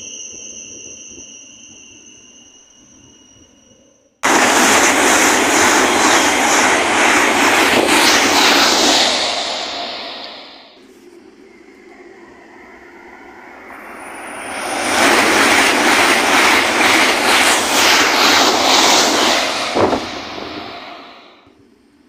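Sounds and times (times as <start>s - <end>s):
high-speed train rushing past: 4.2s - 22.0s.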